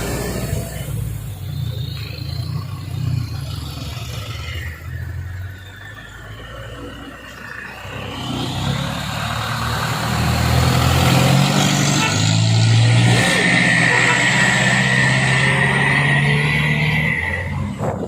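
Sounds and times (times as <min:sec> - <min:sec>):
truck diesel engine revving: 0:00.0 - 0:18.0.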